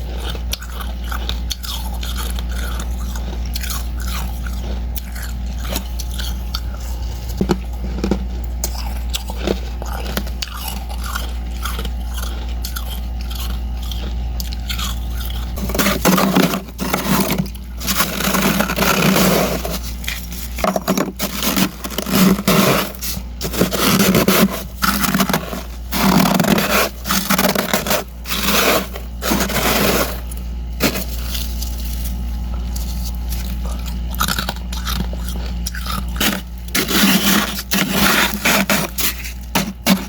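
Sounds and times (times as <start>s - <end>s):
frost scraping and crunching: 0.0s - 40.0s
steady low hum: 0.0s - 40.0s.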